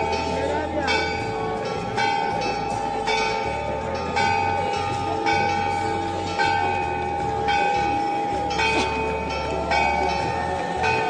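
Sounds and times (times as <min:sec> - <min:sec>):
large temple bell ringing: 0:00.0 - 0:11.0.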